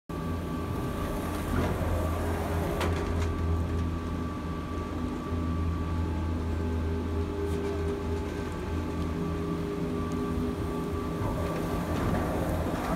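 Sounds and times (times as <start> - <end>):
cable cabin high whine: 0.1 - 12.9
lift machinery hum: 0.1 - 12.9.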